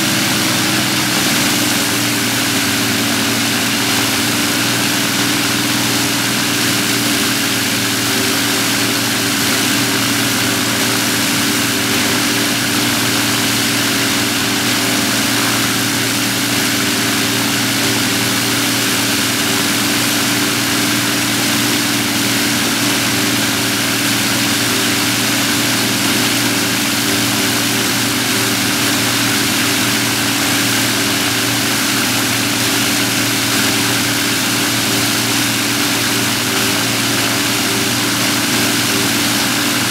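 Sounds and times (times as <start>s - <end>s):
propeller aircraft engines running: 0.0s - 39.9s.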